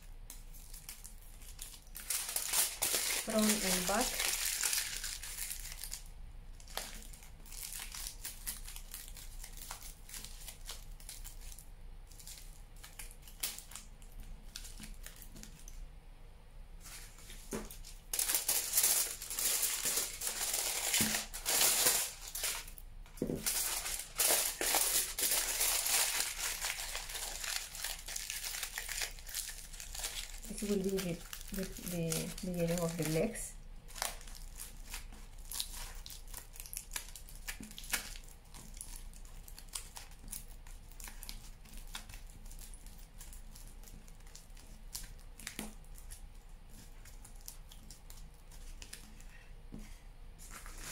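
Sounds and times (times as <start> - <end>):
aluminium foil crinkling: 0.0 - 15.8, 16.8 - 49.4, 50.4 - 50.9.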